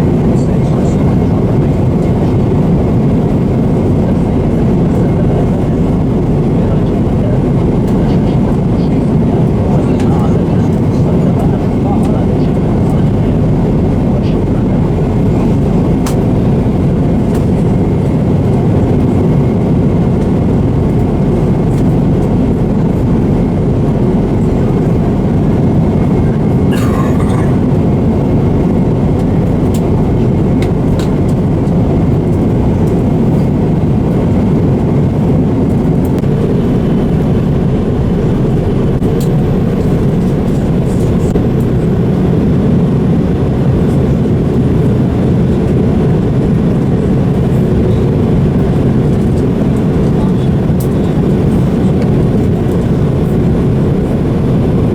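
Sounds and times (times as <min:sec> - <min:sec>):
airliner cabin engine rumble: 0:00.0 - 0:54.9.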